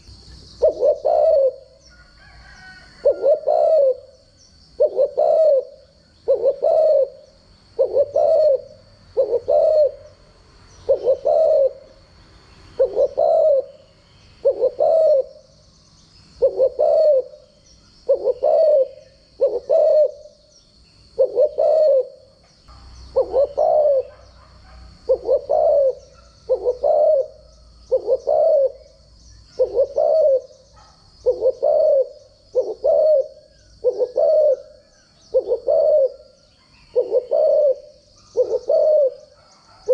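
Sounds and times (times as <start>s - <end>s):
dove cooing: 0.0s - 10.2s, 10.8s - 12.1s, 12.7s - 15.5s, 16.3s - 20.4s, 21.0s - 22.4s, 23.0s - 39.9s.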